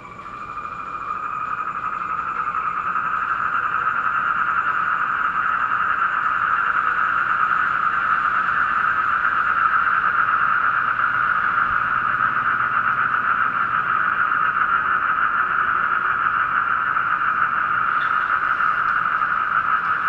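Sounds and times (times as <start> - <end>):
chorus of toads calling: 0.0 - 20.0
high cricket note: 0.0 - 20.0.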